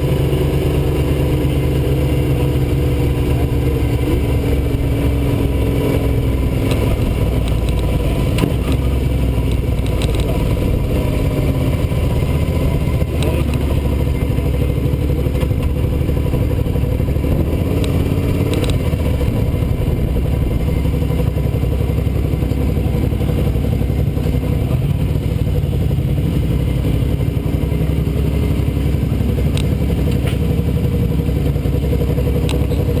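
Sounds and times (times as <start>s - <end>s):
motorcycle engine at low revs: 0.0s - 33.0s.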